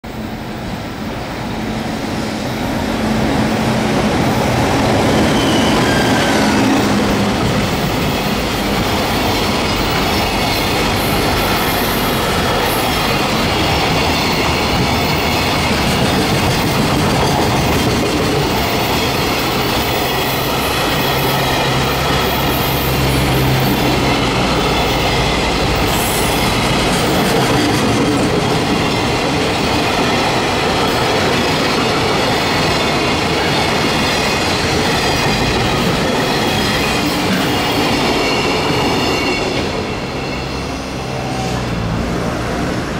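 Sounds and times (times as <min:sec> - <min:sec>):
freight train passing: 0:00.0 - 0:42.9.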